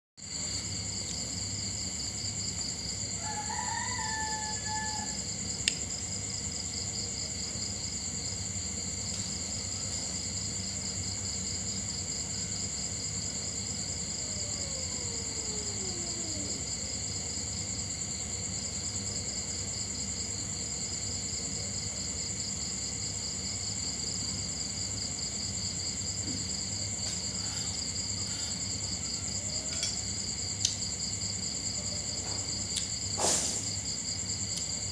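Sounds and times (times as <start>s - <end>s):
crickets trilling: 0.2s - 34.9s.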